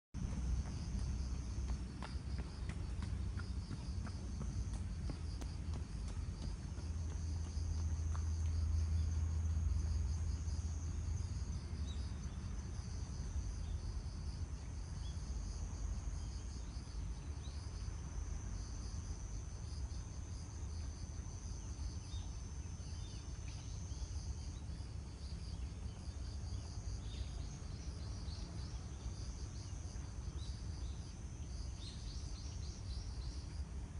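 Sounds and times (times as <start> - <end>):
fast pulsing insect chirp: 0.2 - 33.9
insects trilling: 0.2 - 33.9.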